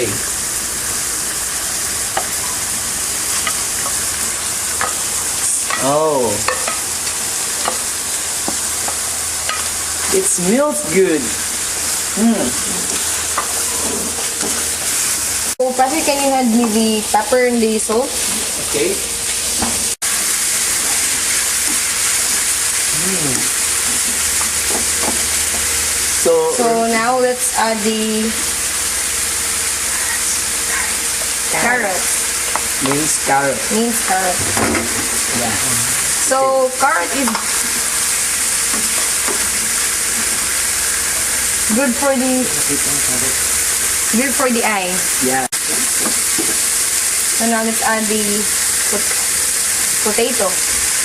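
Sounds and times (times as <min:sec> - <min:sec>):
food sizzling in oil: 0:00.0 - 0:51.0.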